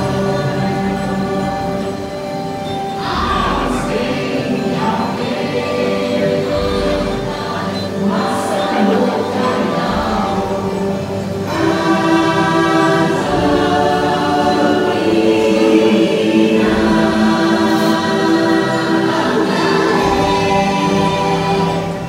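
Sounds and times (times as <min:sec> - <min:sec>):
choir singing held chords: 0:00.0 - 0:22.0.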